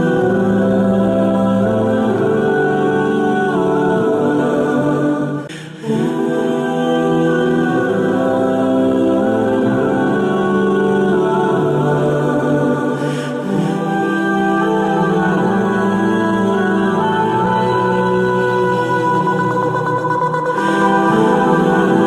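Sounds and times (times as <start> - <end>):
choir-like vocal chords: 0.0 - 22.0.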